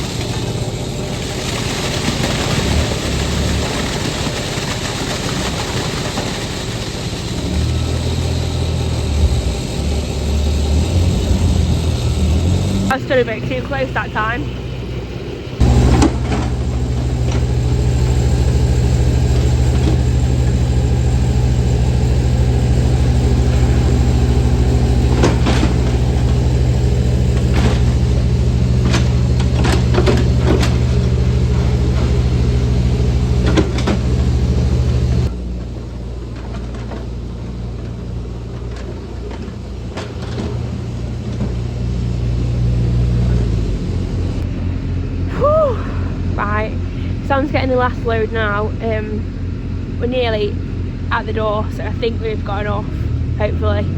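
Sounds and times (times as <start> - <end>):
large engine idling: 0.0 - 53.9.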